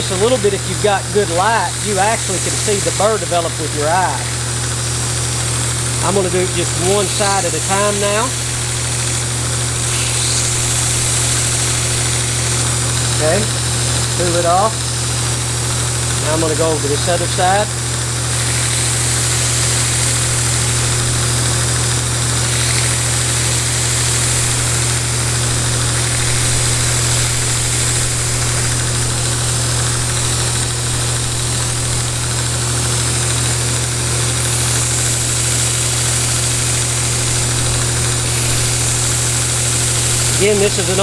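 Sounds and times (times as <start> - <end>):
belt grinder motor humming: 0.0 - 41.0
steel grinding against belt: 0.0 - 41.0.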